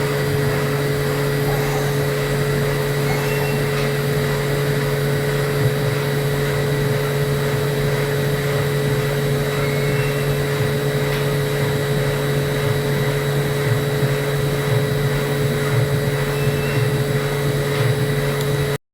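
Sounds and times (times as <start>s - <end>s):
milling machine cutting: 0.0s - 18.8s
spindle high whine: 0.0s - 18.8s.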